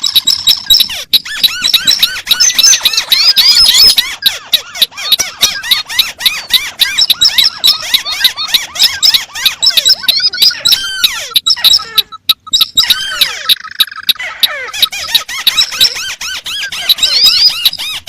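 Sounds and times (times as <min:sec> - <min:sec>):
crakes chirping: 0:00.0 - 0:18.0.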